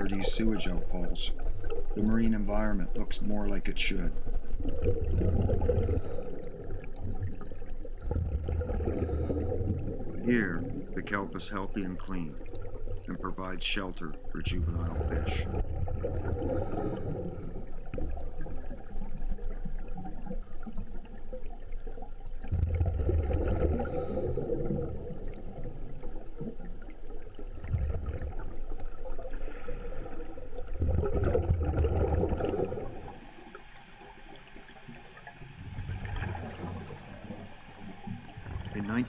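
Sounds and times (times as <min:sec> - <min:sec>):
underwater rumbling gurgling: 0:00.0 - 0:39.0.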